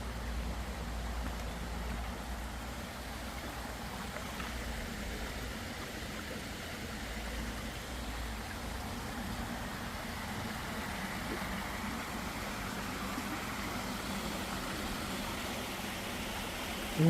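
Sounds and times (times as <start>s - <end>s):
brook babbling: 0.0s - 17.0s.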